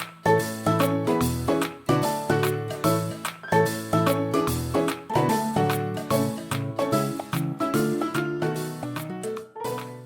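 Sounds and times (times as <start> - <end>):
upbeat bouncy music: 0.0 - 10.0.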